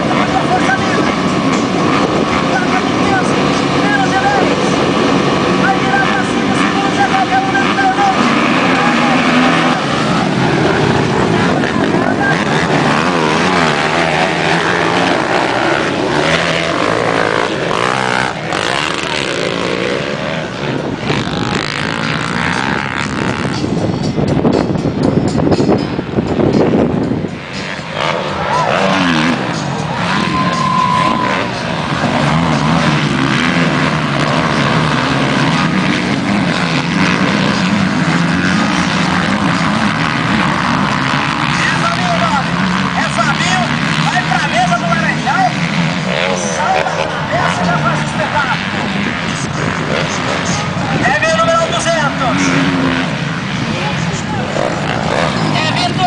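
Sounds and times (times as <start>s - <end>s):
motocross bikes revving: 0.0s - 56.0s.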